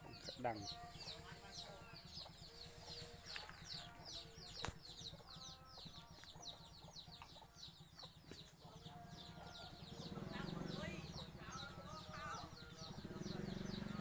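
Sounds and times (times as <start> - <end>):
faint chickens clucking: 0.0 - 14.0
small birds chirping: 0.0 - 14.0.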